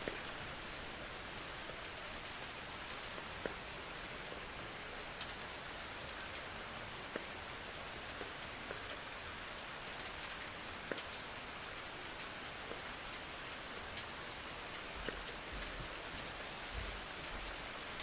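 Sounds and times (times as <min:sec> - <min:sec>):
raindrops ticking close by: 0:00.0 - 0:18.0
steady rain: 0:00.0 - 0:18.0.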